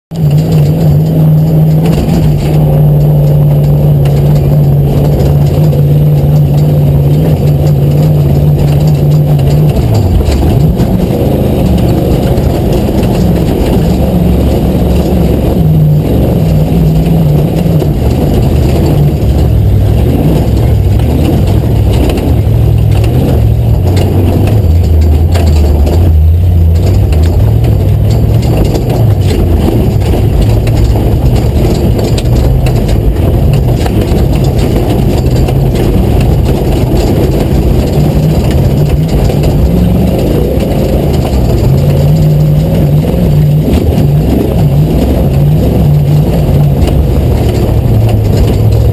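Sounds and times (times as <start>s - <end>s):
truck engine running hard: 0.0s - 48.9s.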